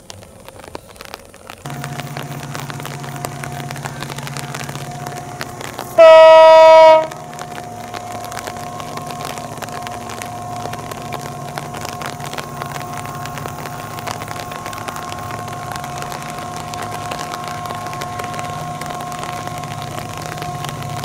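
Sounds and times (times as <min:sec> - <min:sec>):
rain patter: 0:00.0 - 0:21.0
locomotive engine throbbing: 0:01.6 - 0:21.0
high whine: 0:01.7 - 0:21.0.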